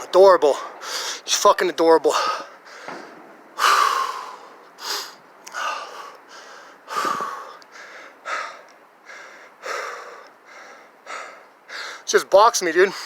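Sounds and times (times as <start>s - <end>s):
man breathing hard: 0.6s - 1.3s, 2.1s - 12.1s.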